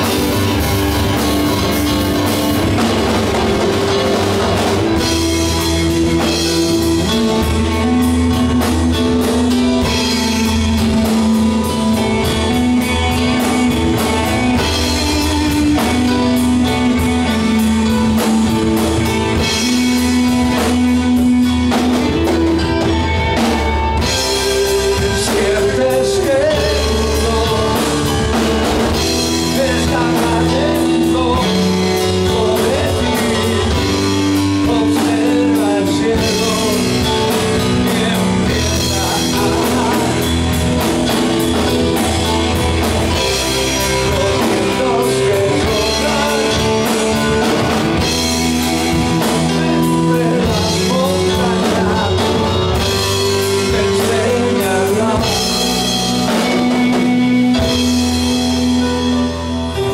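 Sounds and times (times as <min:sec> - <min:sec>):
drum kit: 0:00.0 - 0:59.9
electric guitar: 0:00.0 - 0:59.9
person singing: 0:00.0 - 0:59.9.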